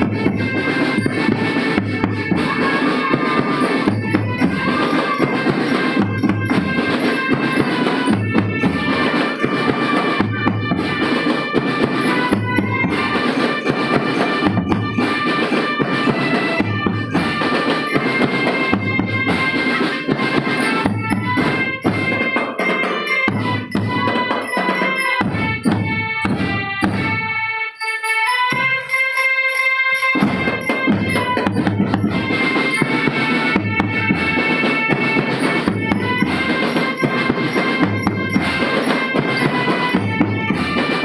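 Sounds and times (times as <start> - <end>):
marching drum band playing: 0.0 - 41.0.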